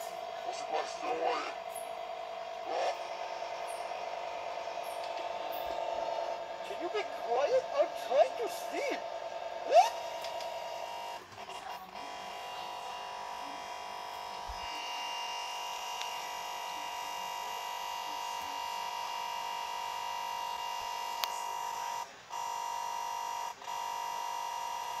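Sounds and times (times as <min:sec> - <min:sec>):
electronic buzzing tone: 0:00.0 - 0:25.0.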